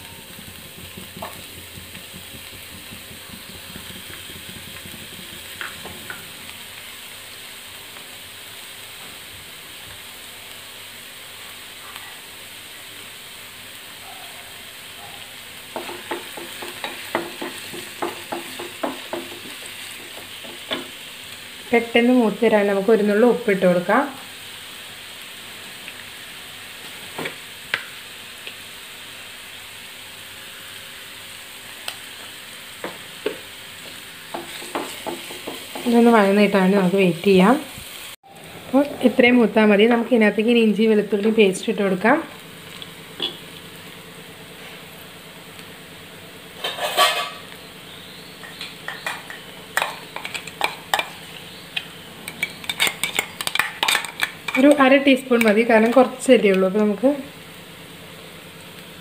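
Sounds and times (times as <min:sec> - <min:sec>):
onions sizzling in a frying pan: 0:00.0 - 0:59.0.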